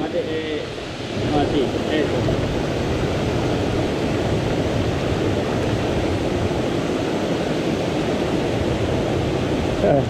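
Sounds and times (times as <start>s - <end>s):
stream flowing over stones: 0.0s - 10.0s.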